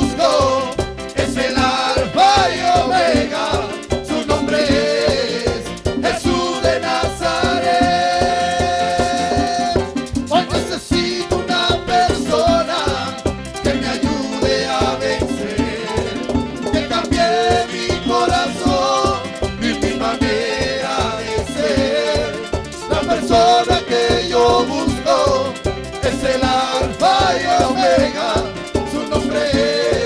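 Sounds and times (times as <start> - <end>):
live band playing salsa music: 0.0 - 30.0.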